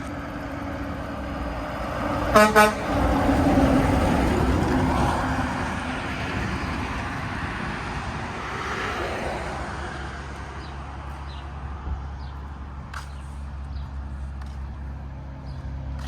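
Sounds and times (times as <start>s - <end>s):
road noise: 0.0s - 16.0s
truck passing: 0.0s - 16.0s.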